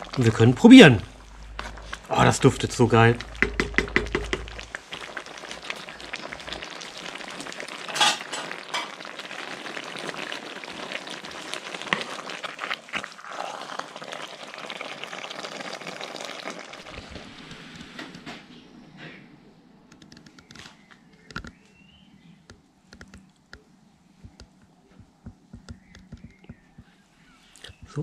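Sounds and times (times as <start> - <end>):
stew bubbling and popping: 0.0 - 18.3, 22.5 - 27.0.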